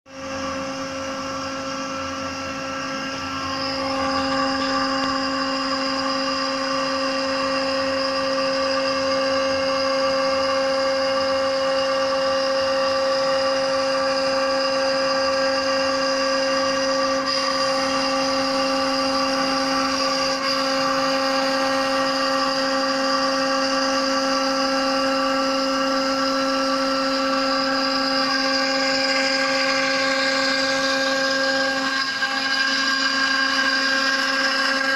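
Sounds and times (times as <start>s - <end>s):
router spindle whine: 0.1s - 34.9s.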